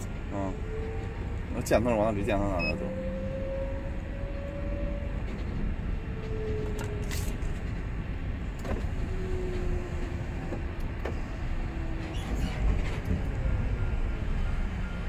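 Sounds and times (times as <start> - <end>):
diesel truck engine rumble: 0.0 - 15.0.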